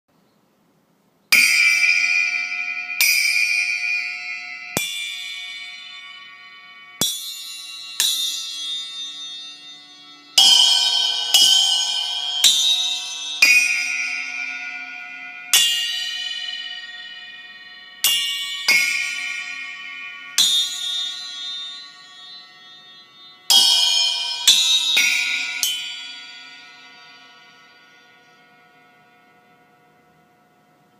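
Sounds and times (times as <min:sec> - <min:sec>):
bell-like chimes ringing: 0:01.4 - 0:30.9.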